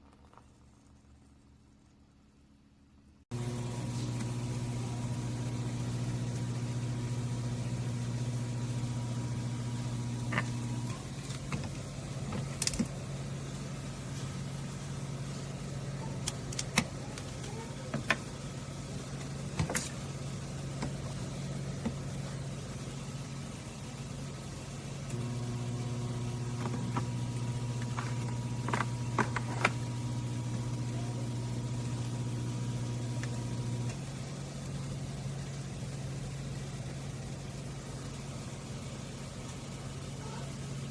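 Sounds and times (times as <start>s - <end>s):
coffee machine pump humming: 0.0s - 2.4s, 3.3s - 40.9s.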